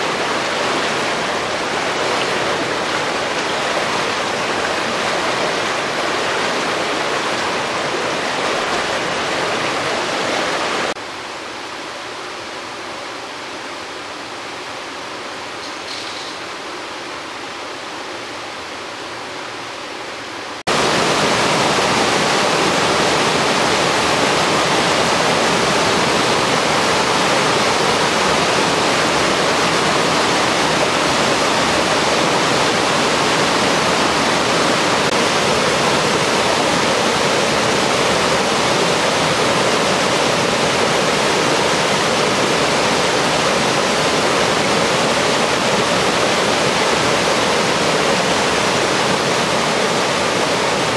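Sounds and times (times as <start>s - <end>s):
stream rushing over rocks: 0.0s - 15.6s, 16.3s - 50.9s.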